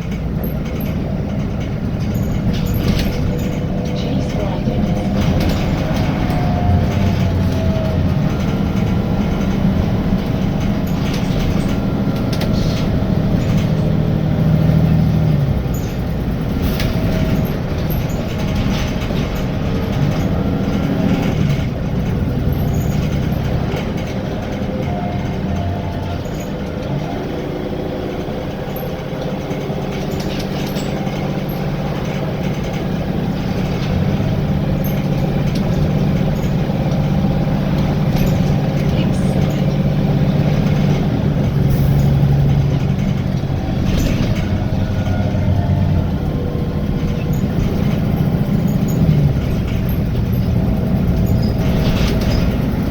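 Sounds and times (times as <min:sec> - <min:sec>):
bus diesel engine revving: 0:00.0 - 0:52.9.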